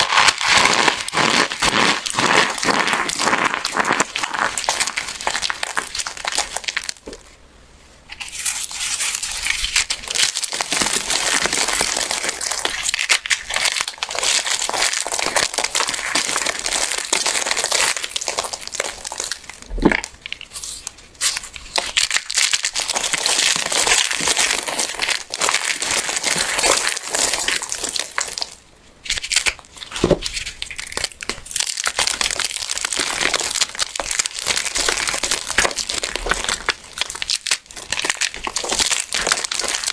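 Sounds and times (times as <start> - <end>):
soap crackling and crumbling: 0.0 - 7.4, 8.1 - 39.9.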